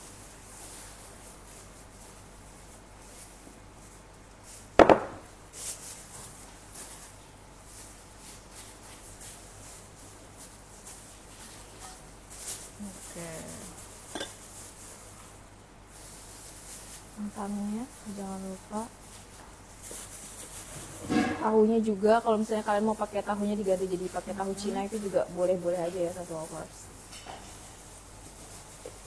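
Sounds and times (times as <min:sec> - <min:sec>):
rustling of lettuce on plate: 0:00.0 - 0:29.0.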